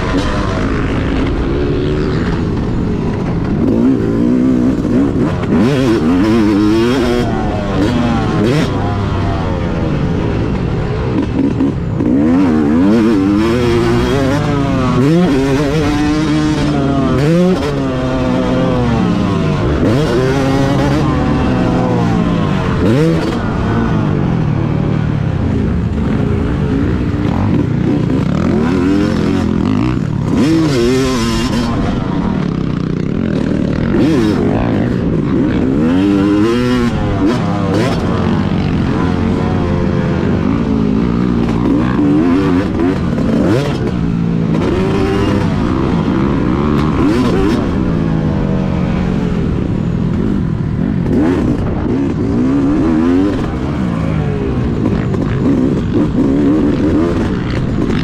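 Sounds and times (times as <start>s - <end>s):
two-stroke motorcycle engine revving: 0.0s - 58.0s.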